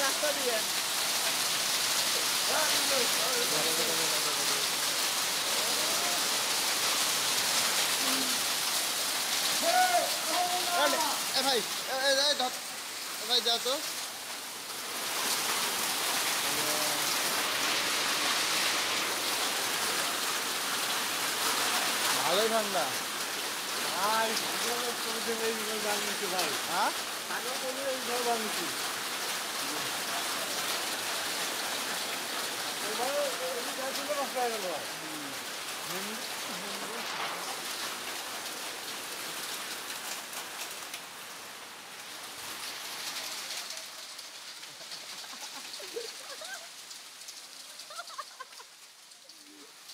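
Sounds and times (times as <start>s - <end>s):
heavy rain and hail pelting: 0.0s - 49.9s.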